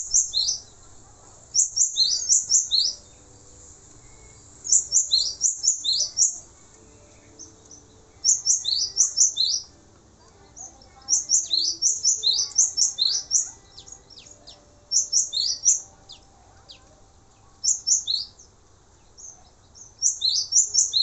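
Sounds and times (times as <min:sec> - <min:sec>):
bird singing rapid high chirps: 0:00.0 - 0:00.9, 0:01.5 - 0:09.8, 0:10.5 - 0:21.0.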